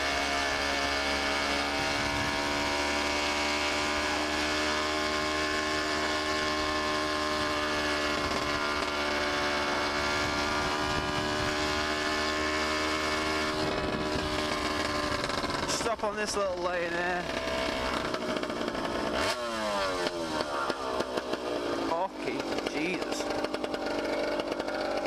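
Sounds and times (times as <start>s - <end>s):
loud unsilenced motorcycle engine: 0.0s - 25.0s.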